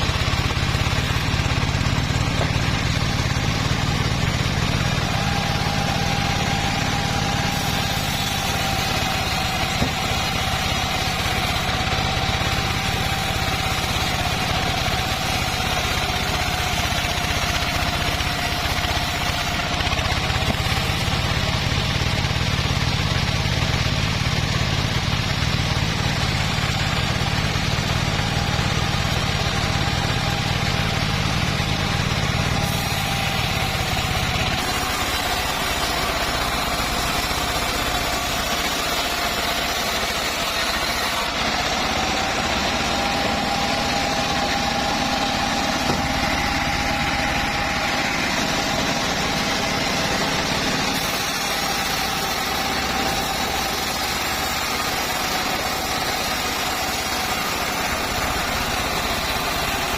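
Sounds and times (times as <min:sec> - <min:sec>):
bandsaw mill whining: 0:00.0 - 0:59.9.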